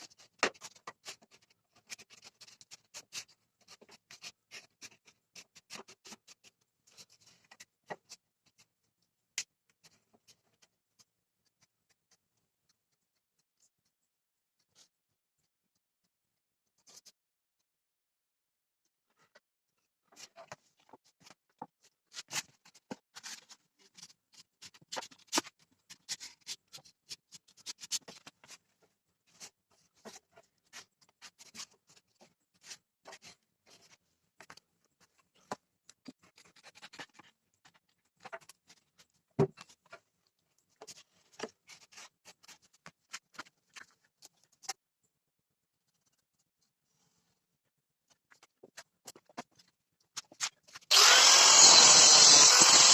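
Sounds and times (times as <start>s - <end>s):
scratching and clicking of hand work: 0.0s - 15.1s, 19.1s - 45.2s, 45.8s - 52.9s.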